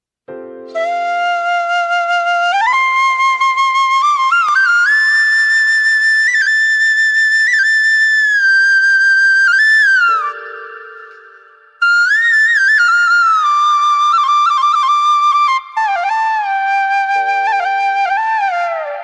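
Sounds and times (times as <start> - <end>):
flute melody: 0.3 - 19.0.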